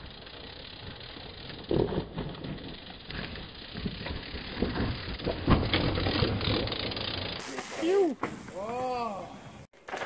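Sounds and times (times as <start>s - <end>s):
bike knocking and scraping: 0.0s - 10.0s
bike tyres scrabbling on dirt: 0.0s - 10.0s.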